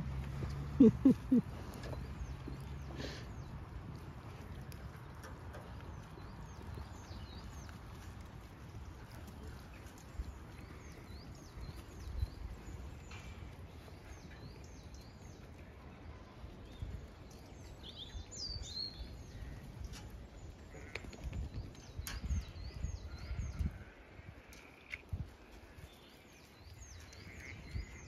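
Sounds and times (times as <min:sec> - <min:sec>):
songbirds chirping: 0:00.0 - 0:28.0
wind rumble on microphone: 0:00.0 - 0:28.0.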